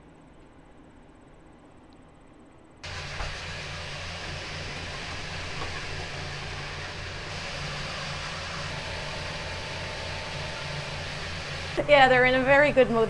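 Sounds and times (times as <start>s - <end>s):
low electrical hum: 0.0s - 13.0s
ventilation fans whirring: 0.0s - 13.0s.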